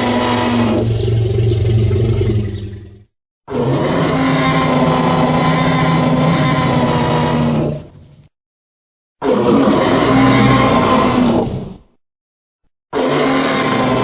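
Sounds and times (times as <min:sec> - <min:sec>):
dinosaur roar: 0:00.0 - 0:08.0, 0:09.2 - 0:11.8, 0:13.0 - 0:14.0.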